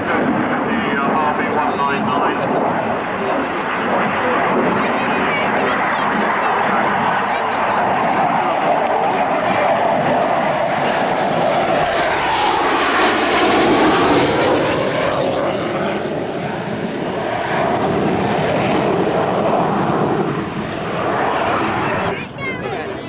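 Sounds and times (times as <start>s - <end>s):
jet aircraft roaring past: 0.0s - 23.0s.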